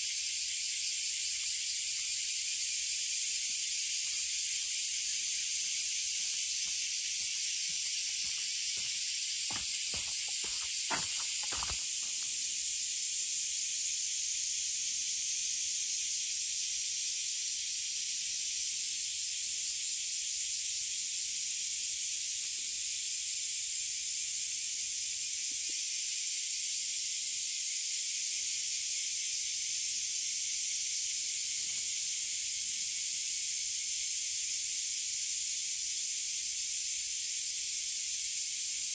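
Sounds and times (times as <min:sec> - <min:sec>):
cicada chorus hissing: 0:00.0 - 0:38.9.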